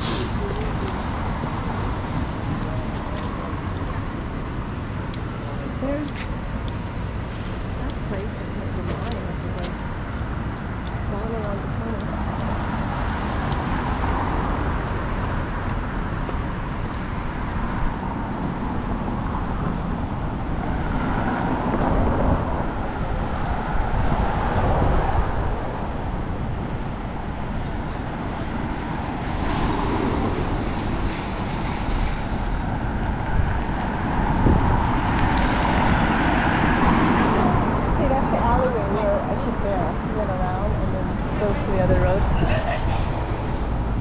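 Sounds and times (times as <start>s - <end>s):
cars passing on a road: 0.0s - 44.0s.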